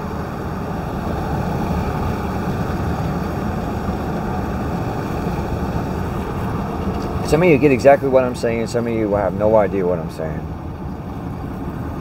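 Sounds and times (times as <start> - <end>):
car cabin rumble and hiss: 0.0 - 12.0.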